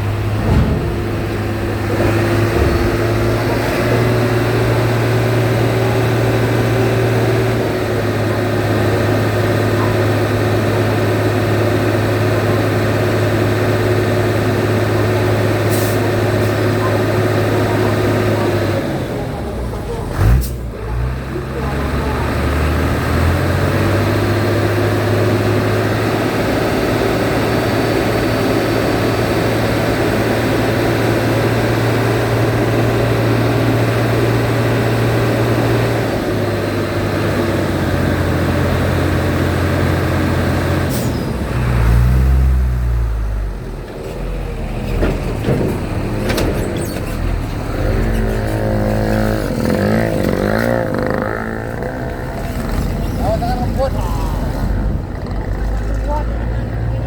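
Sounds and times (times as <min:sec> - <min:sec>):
heavy vehicle engines running: 0:00.0 - 0:57.0.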